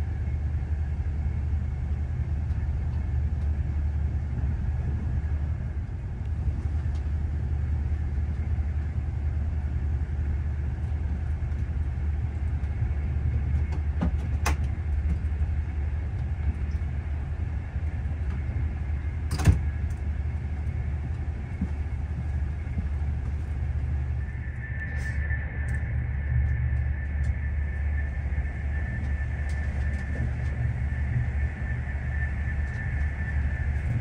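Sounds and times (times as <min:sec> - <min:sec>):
train rumble from inside: 0:00.0 - 0:34.0.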